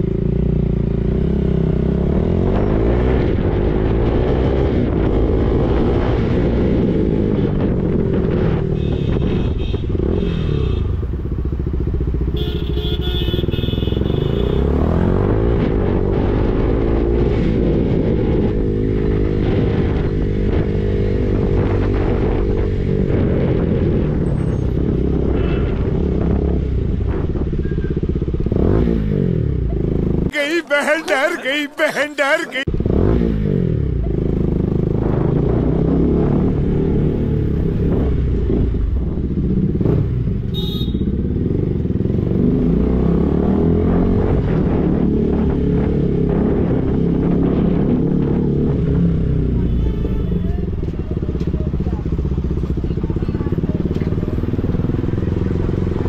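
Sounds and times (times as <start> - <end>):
motorcycle engine revving: 0.0 - 30.3, 32.7 - 56.0.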